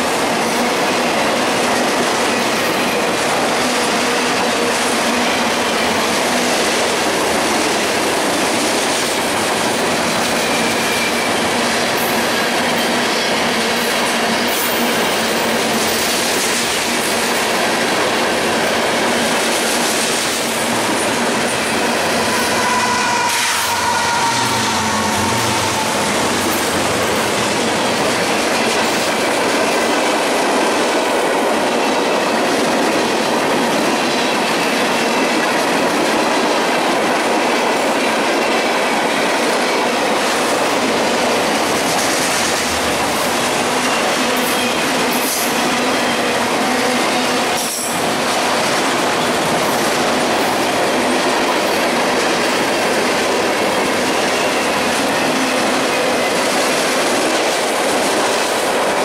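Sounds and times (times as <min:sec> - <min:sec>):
clickety-clack over rail joints: 0:00.0 - 0:22.5, 0:23.2 - 0:59.0
train wheels rushing on rails: 0:00.0 - 0:59.0.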